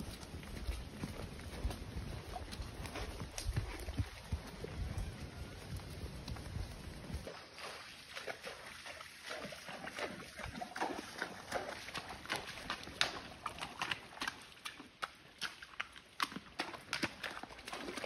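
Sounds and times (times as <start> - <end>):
hooves splashing on wet gravel: 0.0 - 18.0.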